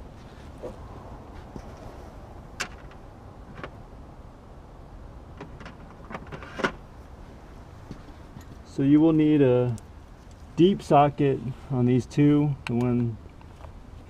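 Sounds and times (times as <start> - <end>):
low steady background noise: 0.0 - 14.0.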